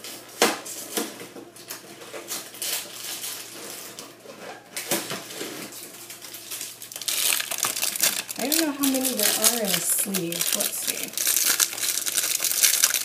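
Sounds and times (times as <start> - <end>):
cardboard box and wrapper rustling: 2.0 - 13.0.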